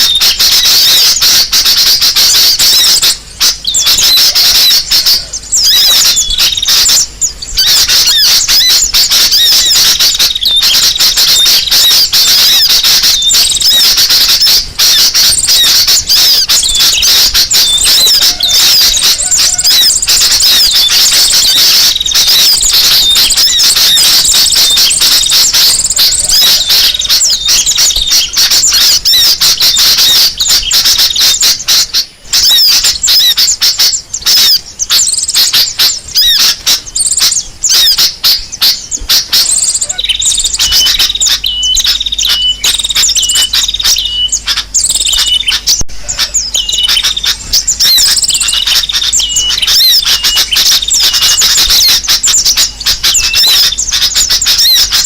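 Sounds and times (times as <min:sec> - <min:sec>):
repeated short bird note: 0:00.0 - 0:55.0
small birds chirping and twittering: 0:00.0 - 0:55.0.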